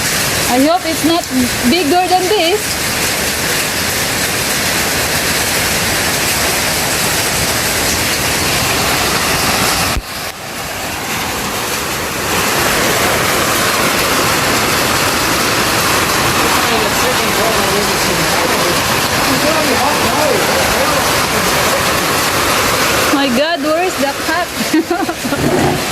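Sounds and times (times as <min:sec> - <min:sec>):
heavy rain and hail: 0:00.0 - 0:25.9.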